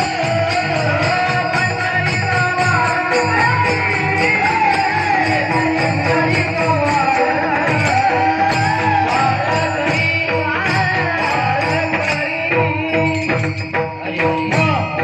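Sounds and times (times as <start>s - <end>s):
high voice singing devotional song: 0.0s - 15.0s
jingling hand percussion: 0.0s - 15.0s.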